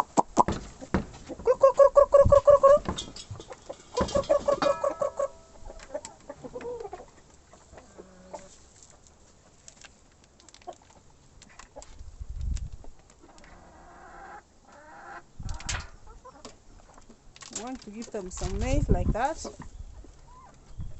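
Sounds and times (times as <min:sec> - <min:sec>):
chickens clucking: 0:00.0 - 0:09.7, 0:12.8 - 0:17.2, 0:18.0 - 0:20.9.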